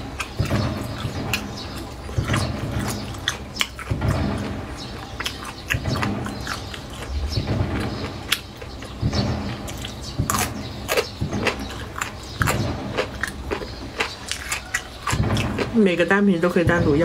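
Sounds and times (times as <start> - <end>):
person chewing food: 0.0 - 15.8.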